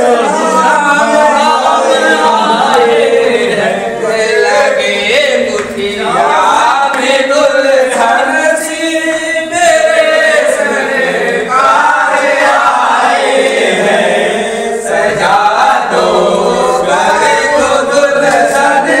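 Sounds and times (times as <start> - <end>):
group singing a chant: 0.0 - 19.0.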